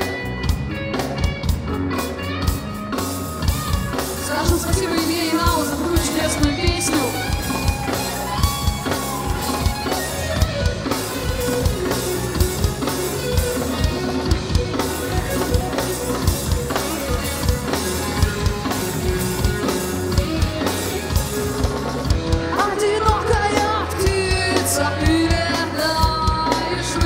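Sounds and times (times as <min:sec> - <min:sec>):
bass guitar: 0:00.0 - 0:27.0
drum kit beat: 0:00.0 - 0:27.0
electric guitar: 0:00.0 - 0:27.0.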